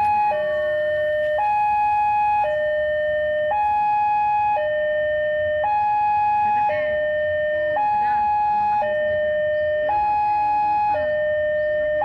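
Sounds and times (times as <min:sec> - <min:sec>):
two-tone electronic alarm: 0:00.0 - 0:12.0.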